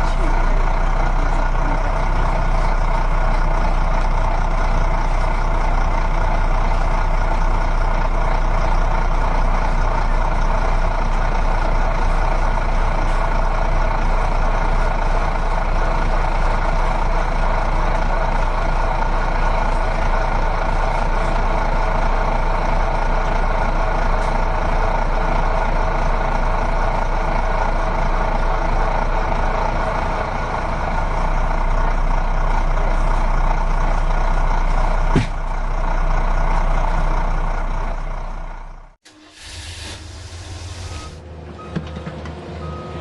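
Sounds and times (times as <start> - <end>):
recycling truck running: 0.0 - 43.0.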